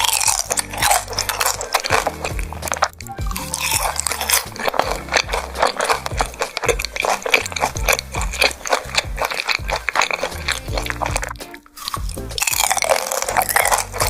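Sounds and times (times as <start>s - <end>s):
background music with bass: 0.0s - 14.0s
wet crunchy chewing: 0.0s - 14.0s.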